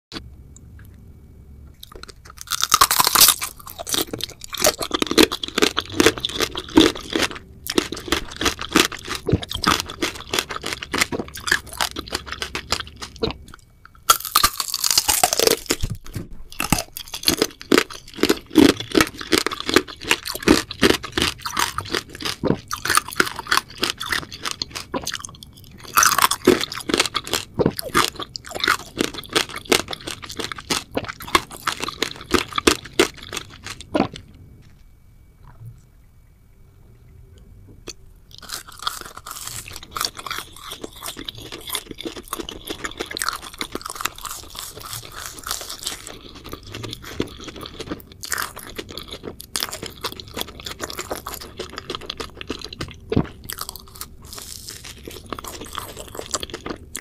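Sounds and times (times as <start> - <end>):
chewing with crackles: 1.7 - 36.0, 37.8 - 57.0
crunchy candy bites: 1.8 - 34.3, 38.3 - 57.0.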